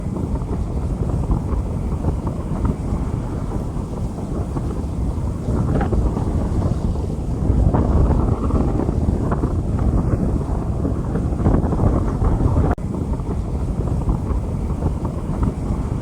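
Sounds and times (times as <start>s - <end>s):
heavy low rumble: 0.0s - 16.0s
rain falling on a street: 0.0s - 16.0s.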